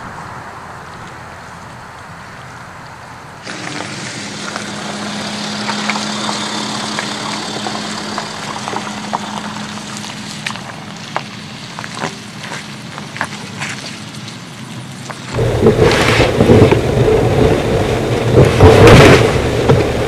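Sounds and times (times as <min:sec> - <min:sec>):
gravel popping under tyres: 0:00.0 - 0:20.0
diesel engine running: 0:03.2 - 0:20.0
tyres crunching over gravel: 0:03.4 - 0:20.0.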